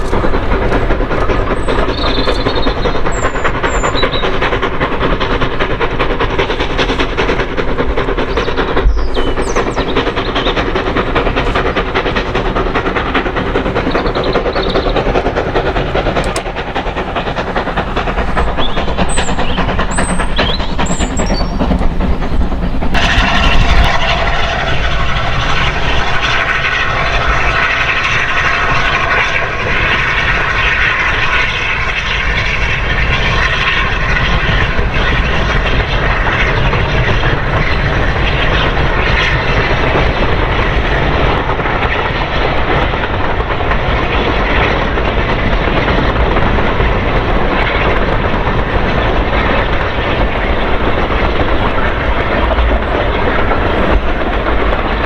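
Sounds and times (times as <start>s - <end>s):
steam train rumbling past: 0.0s - 55.0s.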